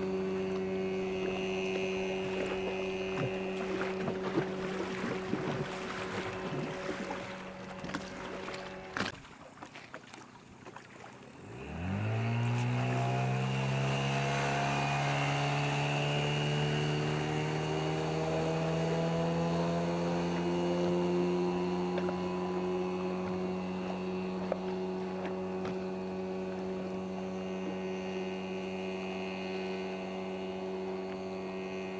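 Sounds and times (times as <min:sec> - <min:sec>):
outboard motor throttling up: 0:00.0 - 0:31.9.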